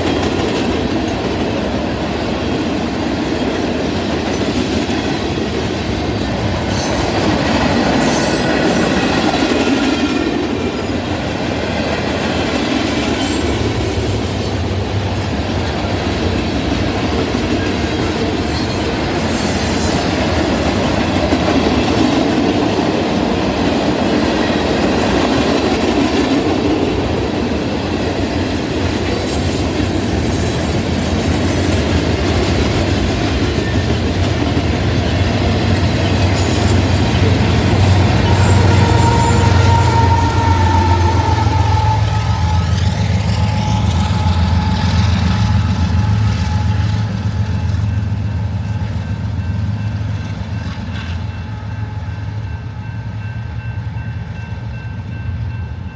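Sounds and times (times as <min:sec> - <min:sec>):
freight train wheels rumbling on rails: 0:00.0 - 0:55.9.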